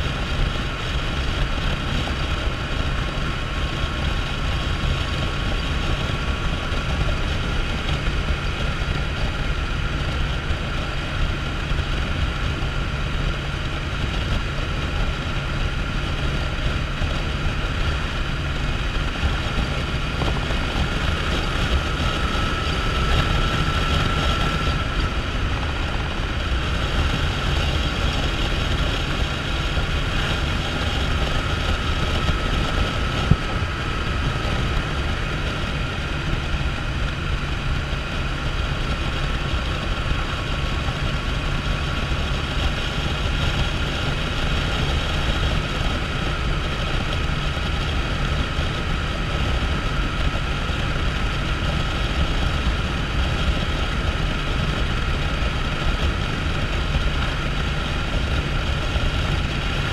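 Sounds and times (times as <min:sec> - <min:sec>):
motorcycle engine cruising: 0:00.0 - 0:59.9
wind rush on microphone: 0:00.0 - 0:59.9.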